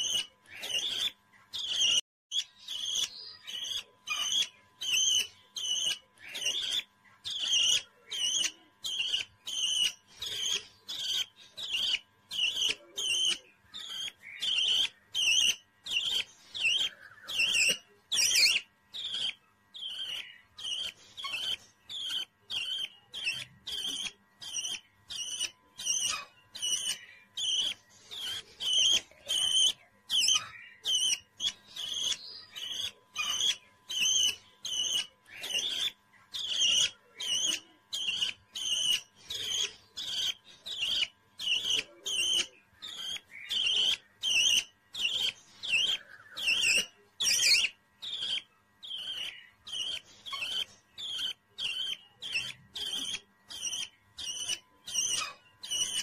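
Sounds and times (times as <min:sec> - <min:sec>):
budgerigar chick chirping: 0:00.0 - 0:56.0.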